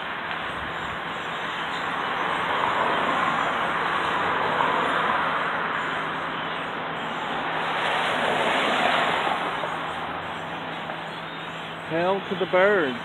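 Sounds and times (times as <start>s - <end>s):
flock of birds calling: 0.5s - 13.0s.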